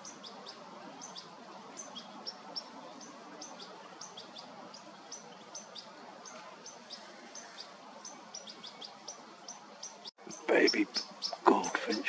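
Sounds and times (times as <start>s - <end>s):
young bird begging calls: 0.0s - 12.0s.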